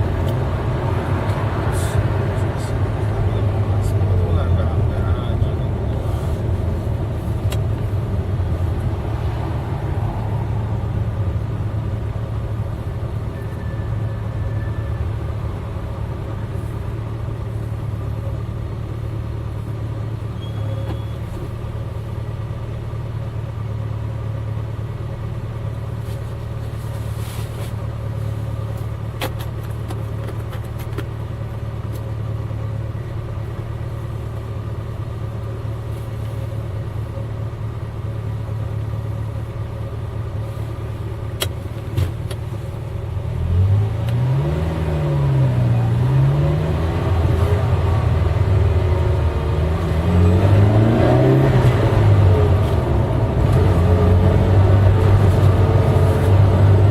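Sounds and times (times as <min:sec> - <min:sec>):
car engine droning: 0:00.0 - 0:56.9.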